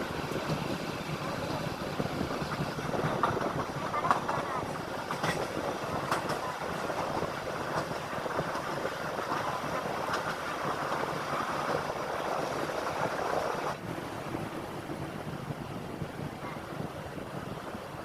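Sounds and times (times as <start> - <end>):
passenger train rumbling on tracks: 0.0 - 18.0.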